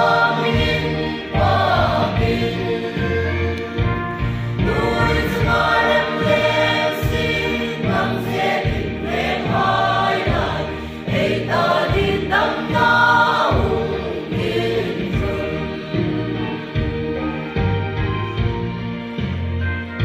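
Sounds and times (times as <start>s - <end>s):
choir singing a hymn: 0.0s - 17.8s.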